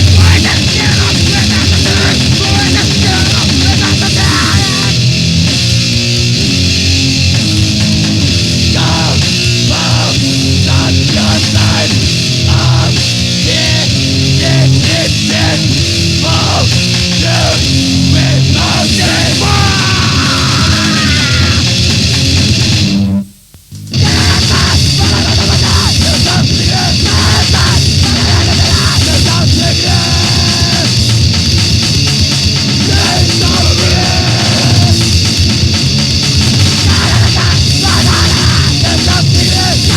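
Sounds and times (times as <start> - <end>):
pounding drums: 0.0 - 5.8, 6.4 - 22.8, 24.0 - 39.9
distorted guitars: 0.0 - 39.9.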